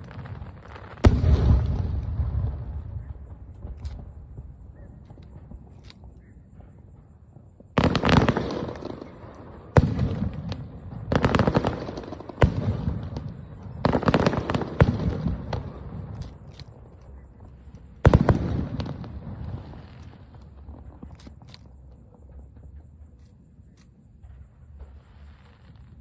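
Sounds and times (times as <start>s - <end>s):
crackle and echo: 0.0s - 26.0s.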